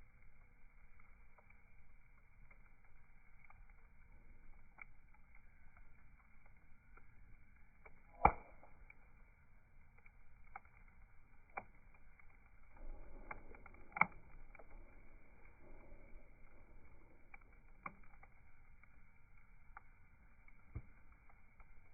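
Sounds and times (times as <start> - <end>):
burning wood popping: 0.0 - 21.9
low steady hiss: 0.0 - 21.9.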